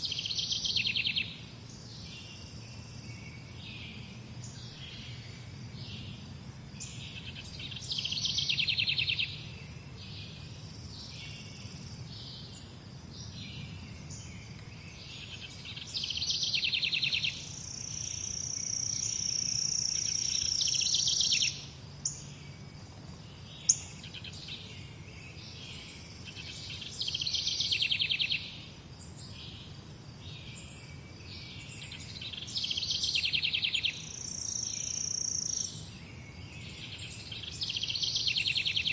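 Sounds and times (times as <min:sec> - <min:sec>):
birds singing trilled phrases: 0:00.0 - 0:06.2, 0:06.8 - 0:22.6, 0:23.3 - 0:29.7, 0:30.4 - 0:38.9.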